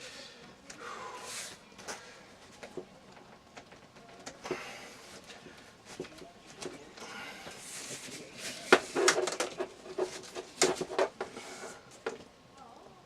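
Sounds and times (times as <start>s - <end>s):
wire scraping and rustling: 1.2s - 12.2s.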